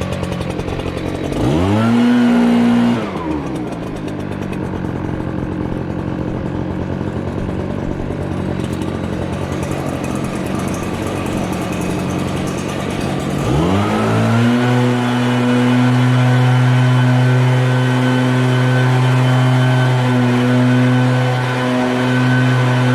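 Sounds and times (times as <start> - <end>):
snow plow engine running: 0.0 - 22.9.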